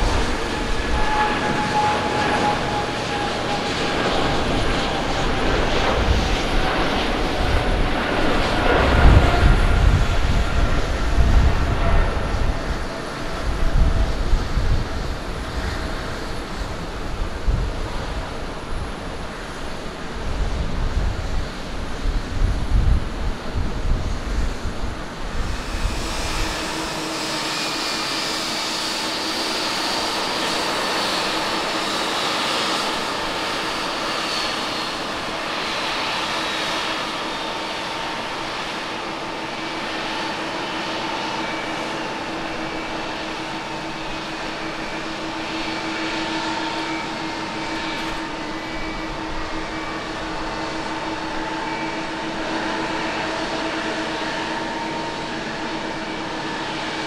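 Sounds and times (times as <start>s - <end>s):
jet engine hiss with whining tones: 0.0s - 57.0s
jet engines rumbling on climb-out: 0.0s - 57.0s.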